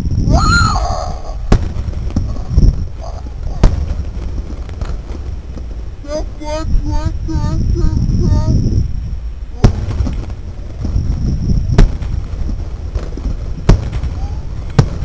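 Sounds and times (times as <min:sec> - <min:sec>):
fireworks bangs: 0:00.0 - 0:07.1, 0:09.5 - 0:15.0
low rumbling noise: 0:00.0 - 0:15.0.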